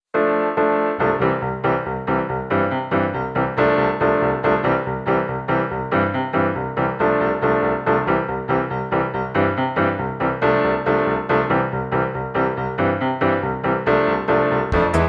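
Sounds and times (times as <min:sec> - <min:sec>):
piano music: 0:00.2 - 0:15.0.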